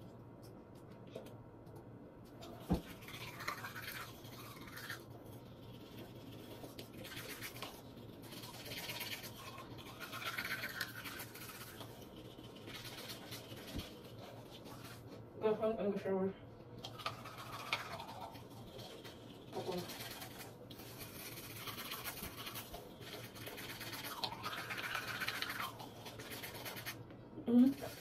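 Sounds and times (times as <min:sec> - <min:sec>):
toothbrush scrubbing teeth: 0:02.3 - 0:15.3, 0:16.8 - 0:28.0.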